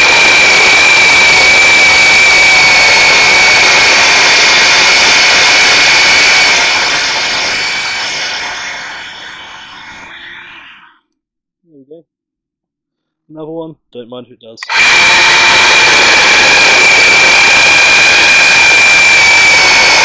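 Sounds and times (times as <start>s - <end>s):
electric chainsaw cutting wood: 0.0s - 10.9s, 14.6s - 20.0s.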